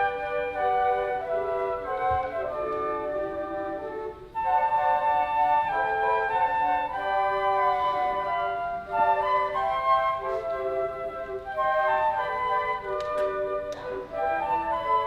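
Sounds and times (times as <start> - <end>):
flutes playing held notes: 0.0 - 15.0.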